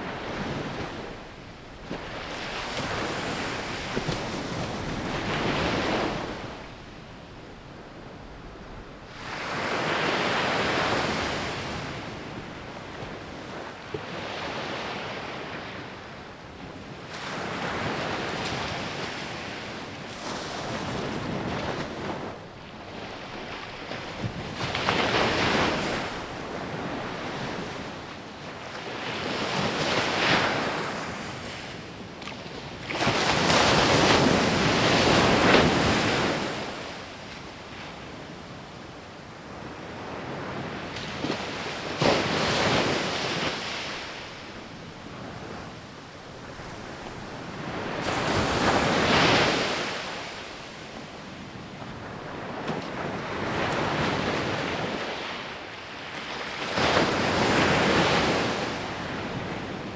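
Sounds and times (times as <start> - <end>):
ocean waves on a beach: 0.0 - 59.9.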